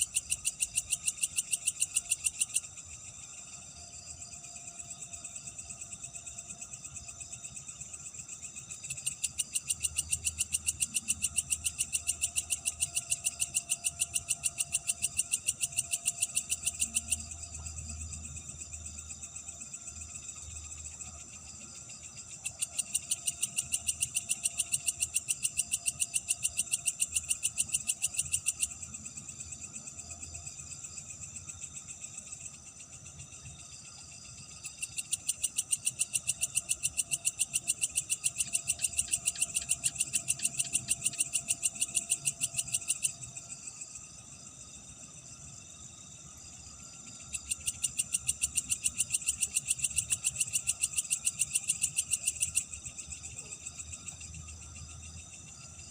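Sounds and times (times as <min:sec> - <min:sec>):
pulsing high-pitched insect call: 0:00.0 - 0:55.9.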